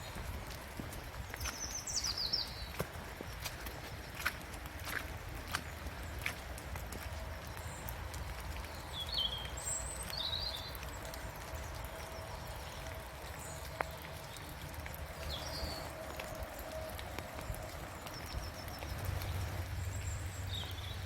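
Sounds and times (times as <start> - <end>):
raindrops tapping: 0.0 - 21.0.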